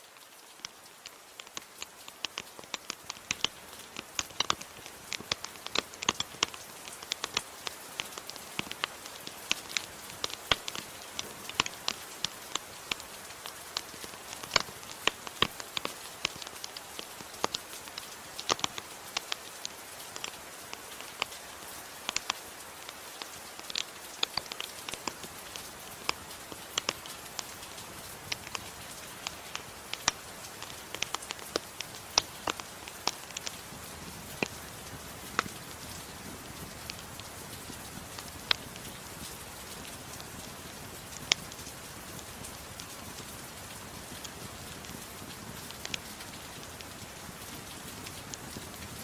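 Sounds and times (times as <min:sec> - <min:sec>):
soft rain hiss: 0:00.0 - 0:49.0
wood fire crackling and popping: 0:00.0 - 0:49.0.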